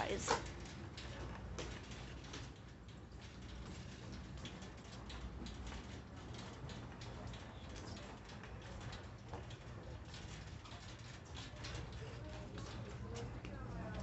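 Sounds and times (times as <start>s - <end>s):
low store hum: 0.0s - 14.0s
shopping cart rattling: 0.0s - 14.0s.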